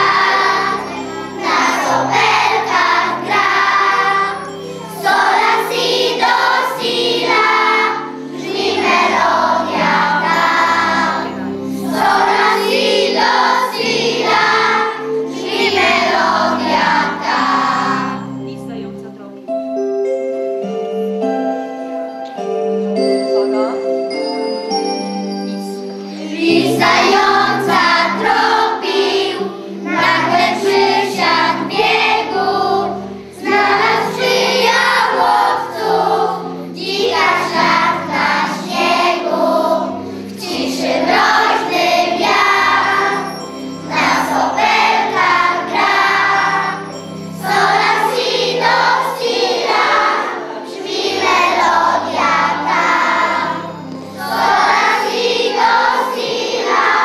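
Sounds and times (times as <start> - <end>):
children singing together: 0.0 - 18.4, 25.6 - 57.0
instrumental accompaniment: 0.0 - 57.0.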